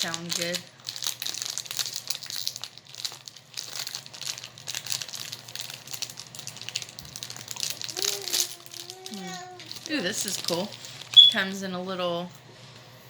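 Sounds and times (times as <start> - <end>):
wrapper crinkling: 0.0 - 11.2.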